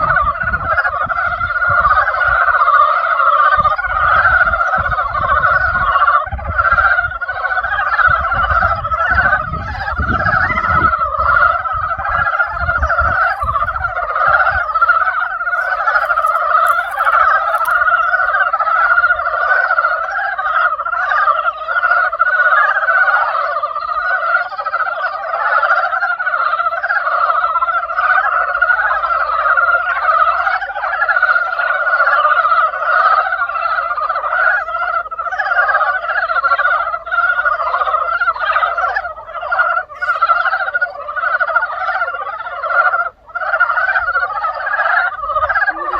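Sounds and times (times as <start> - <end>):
frogs chorus croaking: 0.0 - 45.9.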